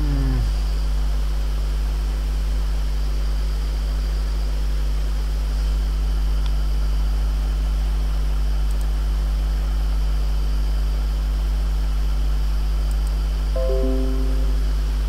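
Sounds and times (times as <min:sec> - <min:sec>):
low hum with hiss: 0:00.0 - 0:15.0.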